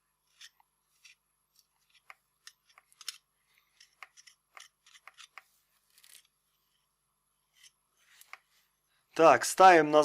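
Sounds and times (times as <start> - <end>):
tools clicking and scraping: 0.2 - 8.6.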